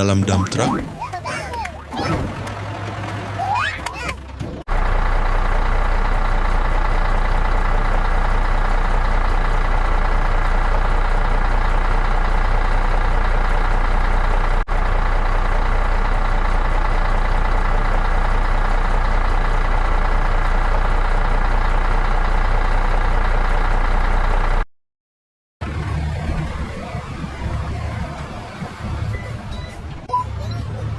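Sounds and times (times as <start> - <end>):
heavy diesel engine running: 2.3 - 24.7, 25.6 - 30.9.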